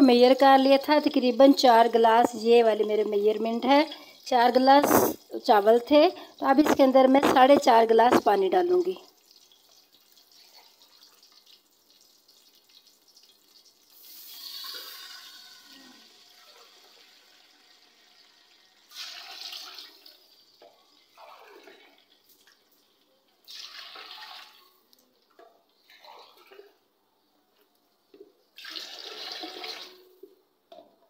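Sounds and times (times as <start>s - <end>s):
water pouring into a pot: 0.2s - 25.2s, 28.6s - 30.2s.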